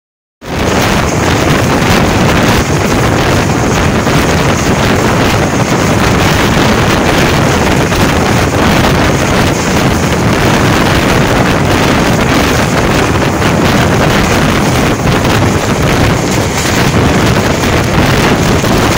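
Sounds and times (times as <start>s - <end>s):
train running on track: 0.4s - 18.9s
wind buffeting microphone: 0.4s - 18.9s.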